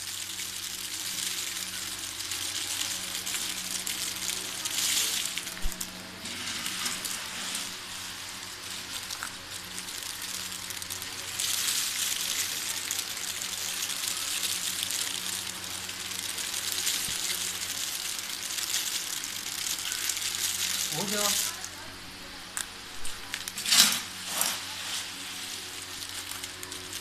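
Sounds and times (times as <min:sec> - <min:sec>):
peanuts pattering onto a heap: 0:00.0 - 0:21.8, 0:22.5 - 0:27.0
fan humming: 0:00.0 - 0:27.0.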